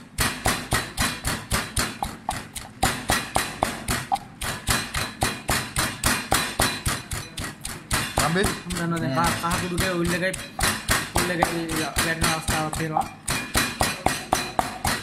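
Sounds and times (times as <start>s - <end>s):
rapid sharp knocks: 0.0s - 15.0s.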